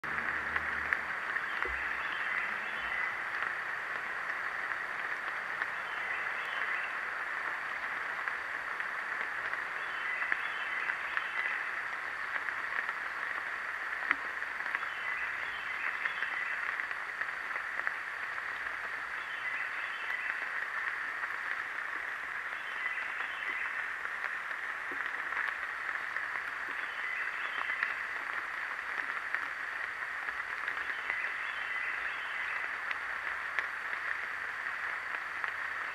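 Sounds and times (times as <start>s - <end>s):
frogs chorus calling: 0.1s - 3.8s, 9.4s - 35.0s.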